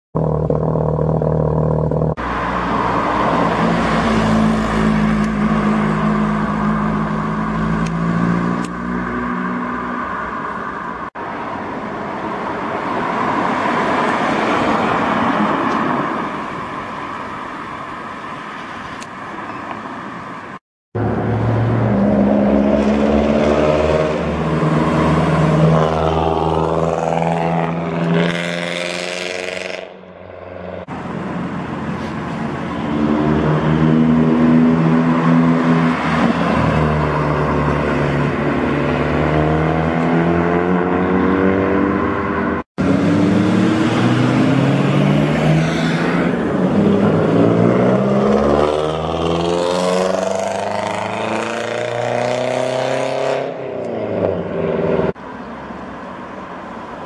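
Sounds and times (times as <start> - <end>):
car engines revving and accelerating: 0.2 - 16.6, 21.0 - 57.0.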